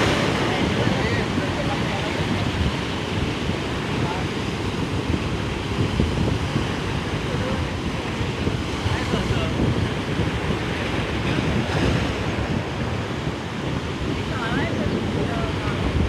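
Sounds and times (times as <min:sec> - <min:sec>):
ocean surf washing on shore: 0:00.0 - 0:16.0
wind buffeting microphone: 0:00.0 - 0:16.0.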